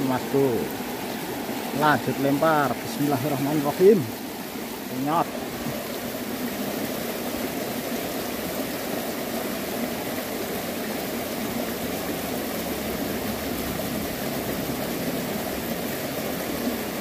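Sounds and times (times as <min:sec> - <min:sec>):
river flowing over rocks: 0:00.0 - 0:17.0.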